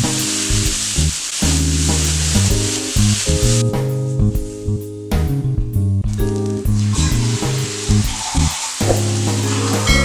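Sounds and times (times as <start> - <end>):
instrumental music with bass and drums: 0.0 - 10.0.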